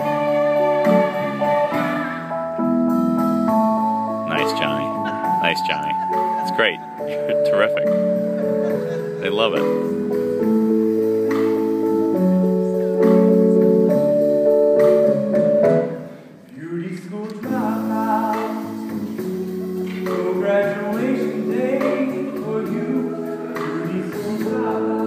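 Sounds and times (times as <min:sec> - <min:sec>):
chorus singing harmonies: 0:00.0 - 0:25.0
pit band playing: 0:00.0 - 0:25.0.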